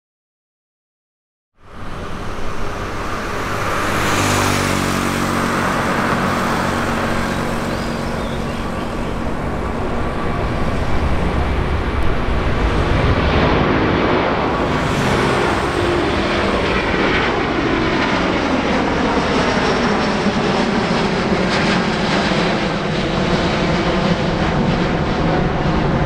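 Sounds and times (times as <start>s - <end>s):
jet engines at takeoff thrust: 1.6s - 26.0s.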